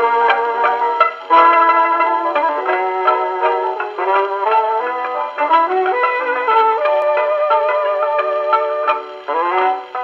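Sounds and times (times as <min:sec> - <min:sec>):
instrumental theme music: 0:00.0 - 0:10.0.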